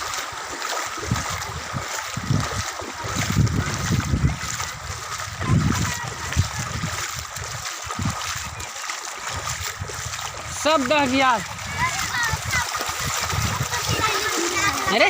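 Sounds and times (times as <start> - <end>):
floodwater rushing and splashing: 0.0 - 15.0.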